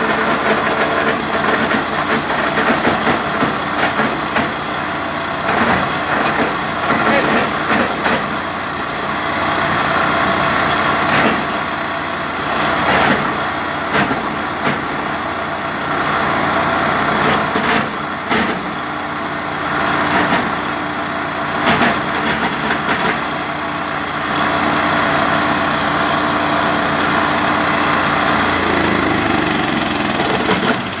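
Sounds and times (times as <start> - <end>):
wood chipper engine running: 0.0 - 31.0.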